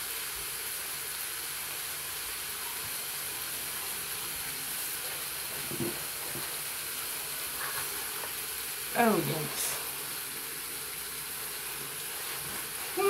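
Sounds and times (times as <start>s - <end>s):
meat sizzling in waffle maker: 0.0s - 13.0s.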